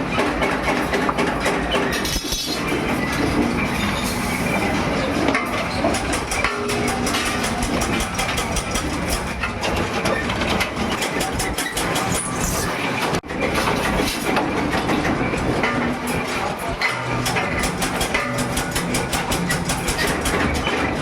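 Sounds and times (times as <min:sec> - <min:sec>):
metalworking machinery clattering: 0:00.0 - 0:21.0.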